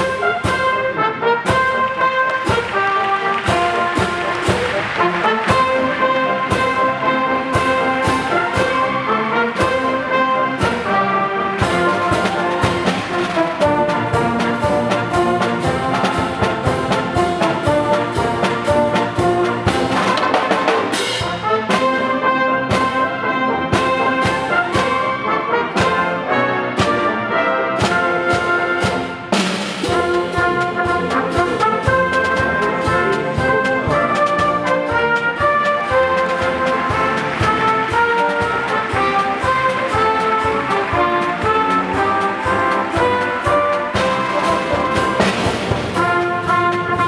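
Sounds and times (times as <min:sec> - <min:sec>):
trumpets and trombones: 0:00.0 - 0:47.0.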